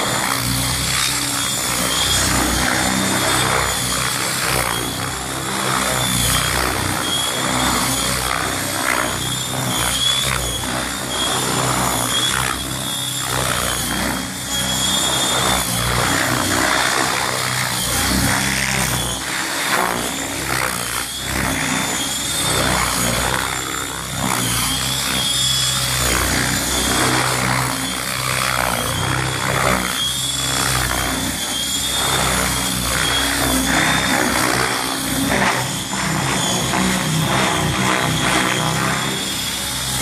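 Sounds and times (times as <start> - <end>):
helicopter rotor blades whooshing: 0.0 - 40.0.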